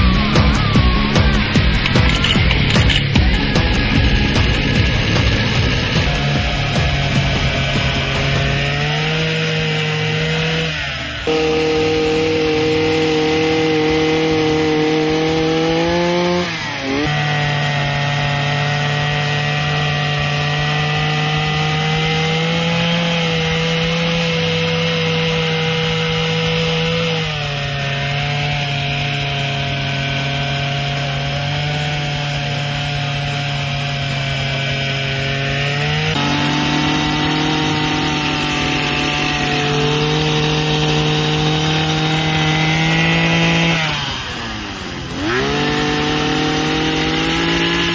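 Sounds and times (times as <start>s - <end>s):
hedge trimmer engine running: 0.0s - 47.9s.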